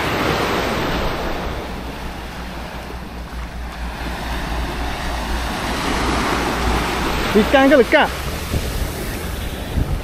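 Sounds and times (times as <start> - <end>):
surf washing onto beach: 0.0 - 10.0
wind buffeting microphone: 0.0 - 10.0.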